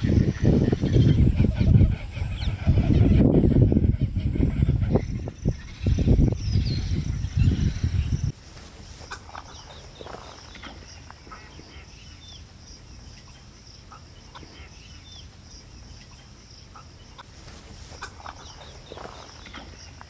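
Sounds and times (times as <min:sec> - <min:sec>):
wild birds calling: 0:00.0 - 0:20.0.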